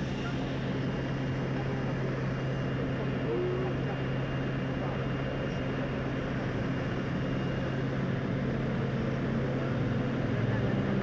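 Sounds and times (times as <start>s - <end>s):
aircraft engine droning: 0.0s - 11.0s.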